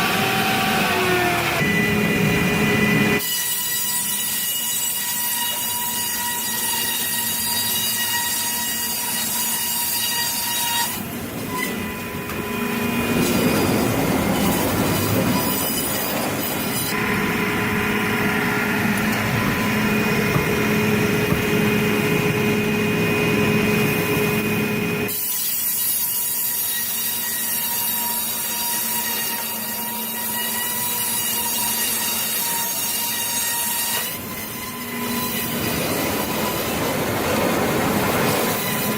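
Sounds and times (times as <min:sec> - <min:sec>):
saw cutting: 0:00.0 - 0:38.9
sawmill machinery whining: 0:00.0 - 0:38.9.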